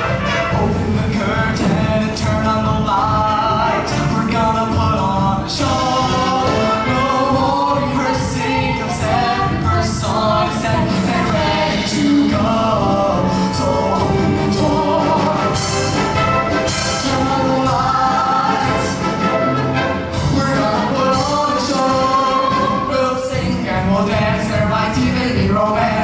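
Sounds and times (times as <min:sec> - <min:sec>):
choir singing in harmony: 0:00.0 - 0:26.0
instrumental accompaniment with drums: 0:00.0 - 0:26.0.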